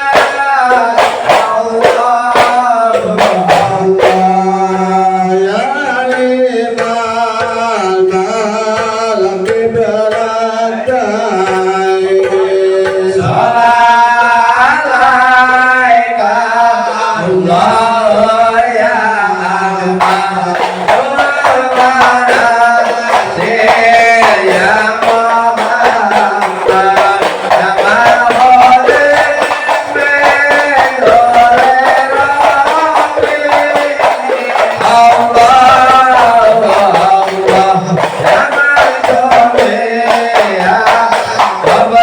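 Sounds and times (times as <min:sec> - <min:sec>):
hand percussion beat: 0:00.0 - 0:42.0
men singing devotional chant: 0:00.0 - 0:42.0.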